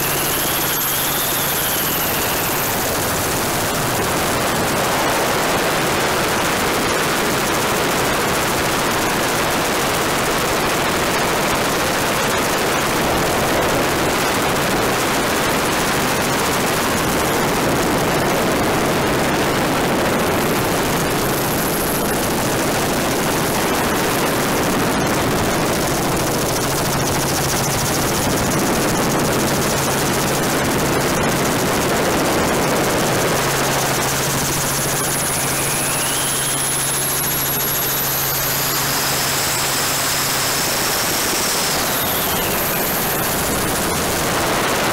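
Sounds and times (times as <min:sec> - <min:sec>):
helicopter rotor and turbine: 0:00.0 - 0:44.9
rushing wind: 0:00.0 - 0:44.9.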